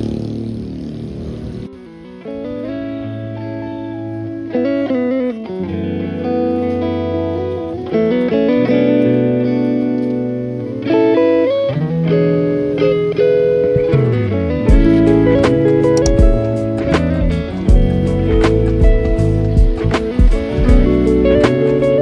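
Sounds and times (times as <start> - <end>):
plucked guitar music: 1.7 - 22.0.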